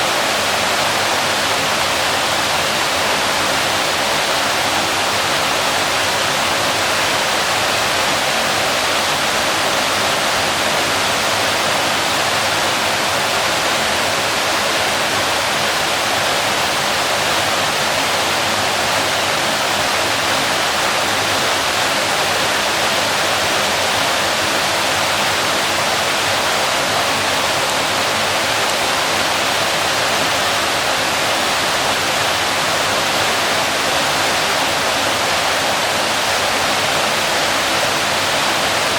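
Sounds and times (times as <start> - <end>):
waterfall pouring: 0.0 - 38.9.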